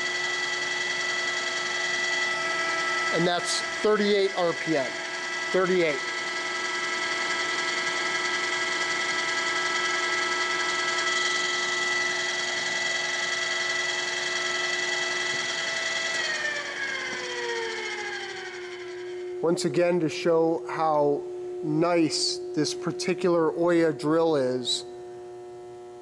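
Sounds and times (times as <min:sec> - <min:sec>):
drill press spindle whine: 0:00.0 - 0:26.0.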